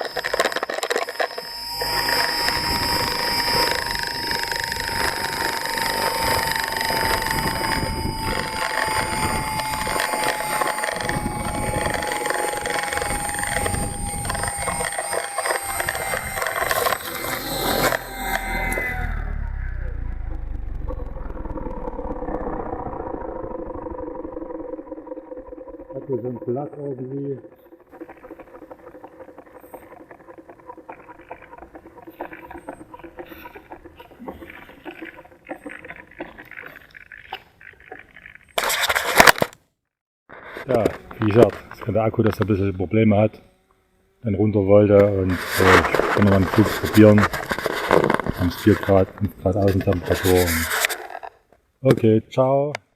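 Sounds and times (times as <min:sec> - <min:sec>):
electric helicopter motor whine: 0:00.0 - 0:36.3, 0:40.7 - 0:51.0.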